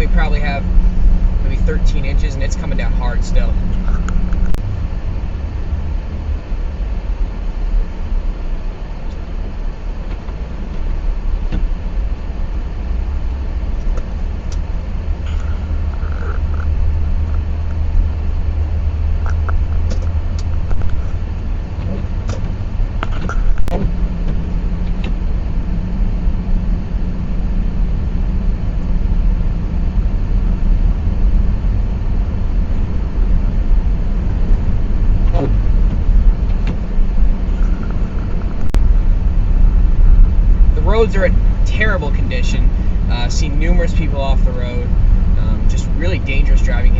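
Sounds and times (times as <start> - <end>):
car driving on snow: 0.0 - 46.9
low steady hum: 0.0 - 46.9.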